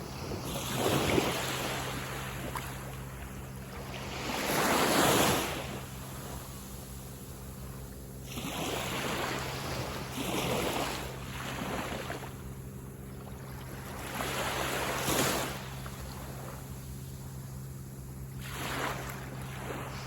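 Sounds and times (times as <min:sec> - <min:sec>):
sea waves breaking on beach: 0:00.0 - 0:20.0.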